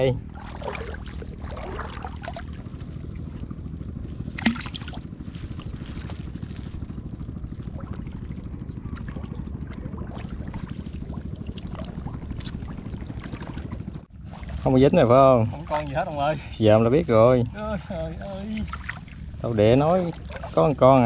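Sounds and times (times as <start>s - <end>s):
water trickling and splashing: 0.0s - 16.3s, 17.8s - 21.0s
low rumble: 0.0s - 21.0s.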